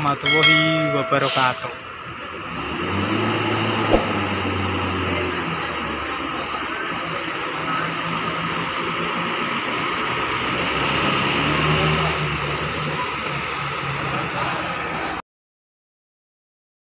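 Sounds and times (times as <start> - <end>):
bus diesel engine running: 0.0 - 15.2.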